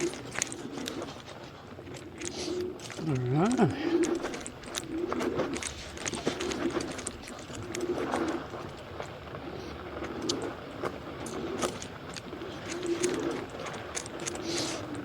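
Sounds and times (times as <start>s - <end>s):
sharp clicks and rattles: 0.0s - 9.1s, 10.1s - 15.0s
dove cooing: 0.0s - 15.0s.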